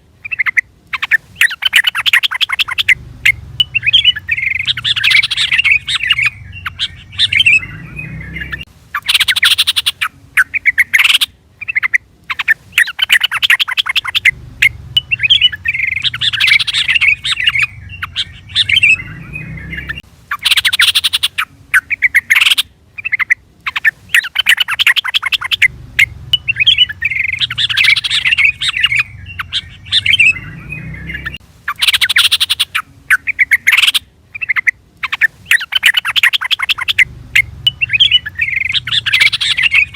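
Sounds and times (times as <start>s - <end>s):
bird bubbly chirping calls: 0.2s - 39.9s.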